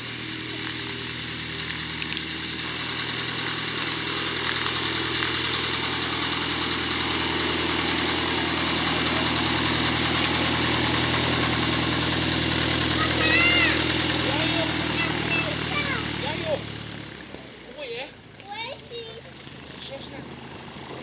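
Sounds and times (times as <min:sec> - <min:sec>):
propeller plane engine running: 0:00.0 - 0:21.0.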